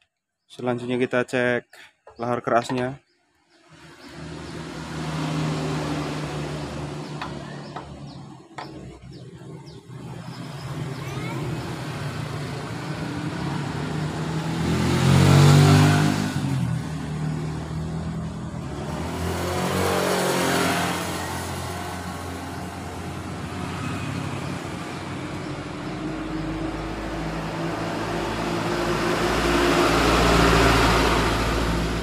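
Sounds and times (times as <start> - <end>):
motor vehicles passing: 3.5 - 32.0.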